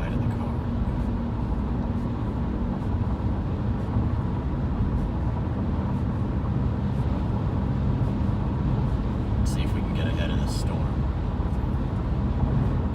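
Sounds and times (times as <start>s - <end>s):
road and engine rumble: 0.0s - 12.9s
wind gusts hitting car: 0.0s - 12.9s.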